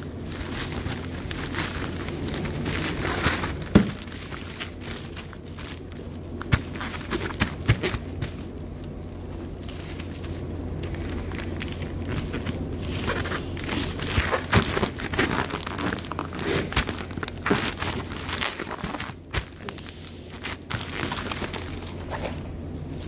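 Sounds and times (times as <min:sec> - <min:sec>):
plastic bags crinkling: 0:00.0 - 0:23.0
steady low hum: 0:00.0 - 0:23.0.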